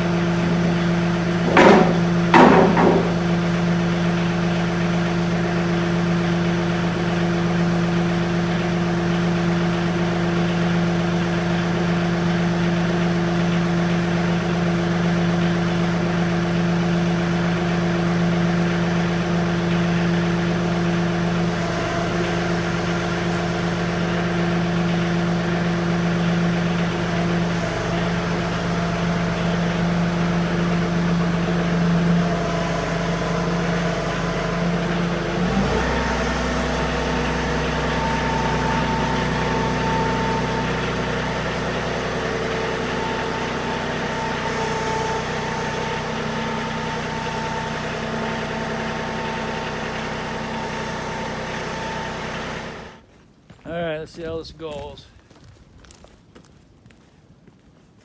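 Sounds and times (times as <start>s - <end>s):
engine running steadily: 0.0s - 53.1s.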